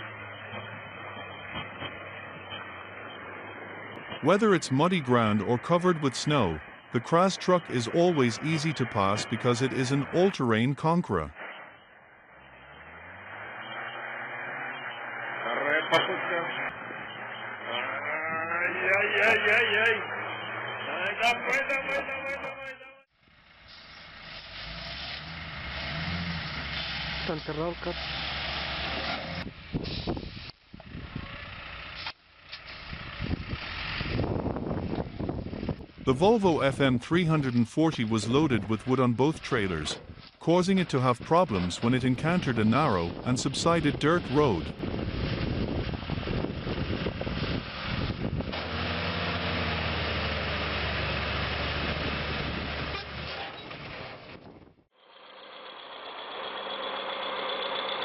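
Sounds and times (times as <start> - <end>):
heavy vehicle engine running: 0.0 - 58.0.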